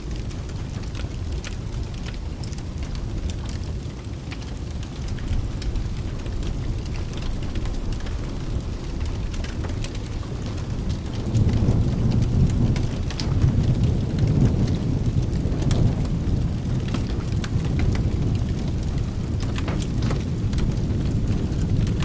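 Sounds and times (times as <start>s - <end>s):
rain: 0.0s - 22.0s
rolling thunder rumble: 0.0s - 22.0s
wood fire crackling: 0.0s - 22.0s.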